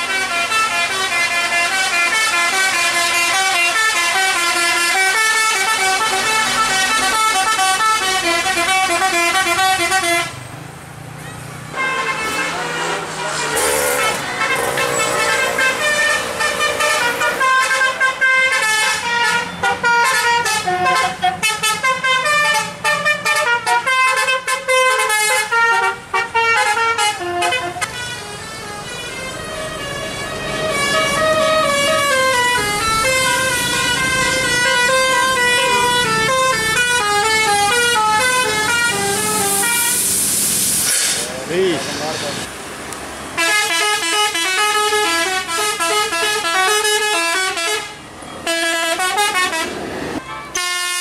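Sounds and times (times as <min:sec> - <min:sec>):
musical air horn melody: 0:00.0 - 0:10.4, 0:11.8 - 0:40.4, 0:43.4 - 0:51.0.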